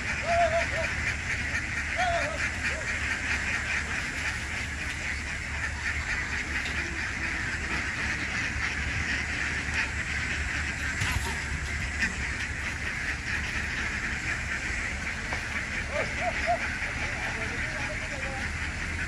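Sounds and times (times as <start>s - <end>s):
flock of ducks quacking: 0.0s - 19.0s.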